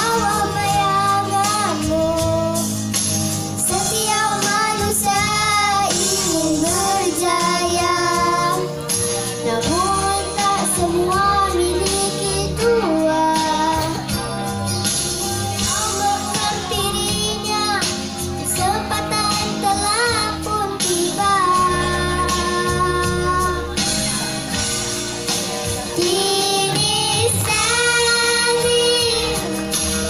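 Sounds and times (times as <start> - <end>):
girls singing into microphones: 0.0 - 24.6, 25.6 - 30.0
instrumental accompaniment: 0.0 - 30.0.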